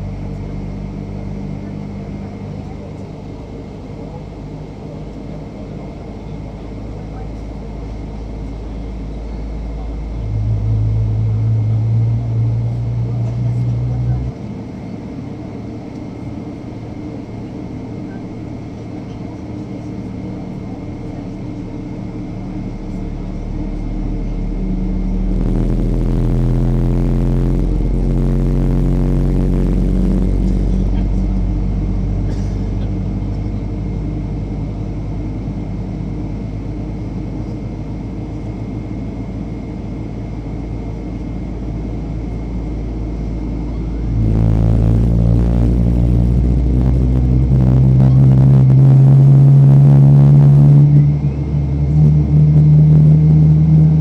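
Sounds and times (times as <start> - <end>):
jet engine rumble inside cabin: 0.0 - 54.0.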